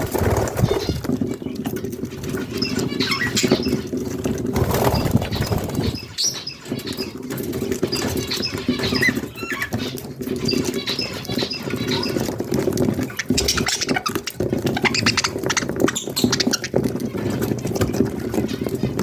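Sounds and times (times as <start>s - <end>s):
wing flutters: 0.0s - 7.1s, 10.4s - 18.8s
budgies chirping: 0.0s - 19.0s
small clicks and scratches: 0.0s - 19.0s.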